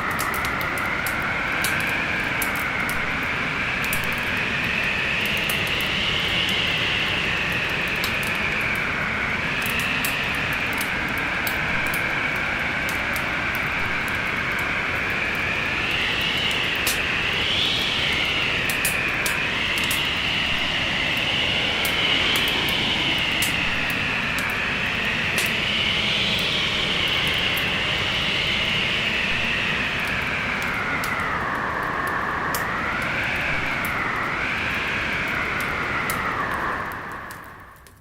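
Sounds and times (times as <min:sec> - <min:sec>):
wood fire crackling: 0:00.0 - 0:25.6, 0:29.3 - 0:38.0
storm wind howling: 0:00.0 - 0:38.0.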